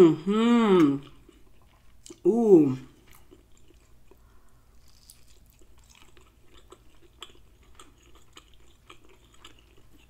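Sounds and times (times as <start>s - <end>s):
mouth chewing food: 0.8s - 10.0s.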